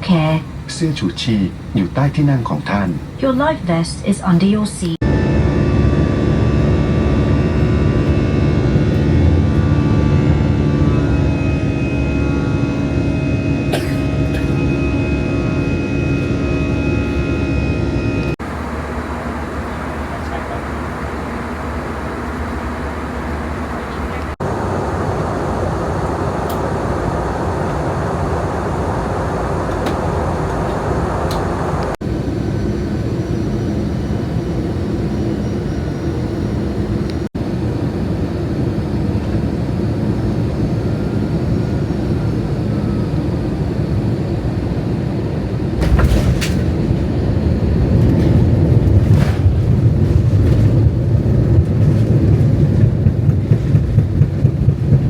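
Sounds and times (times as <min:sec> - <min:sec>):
airliner cabin engine noise: 0:00.0 - 0:55.0.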